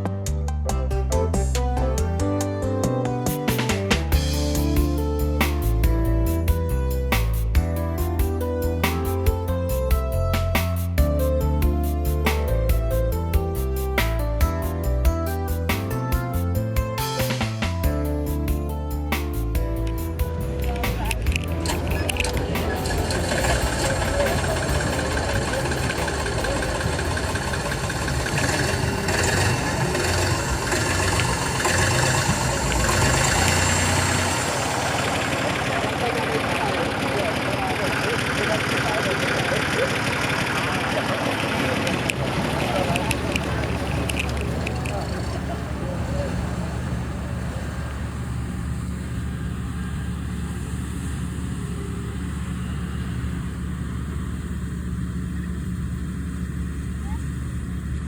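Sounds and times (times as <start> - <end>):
tractor diesel engine running: 0.3 - 58.0.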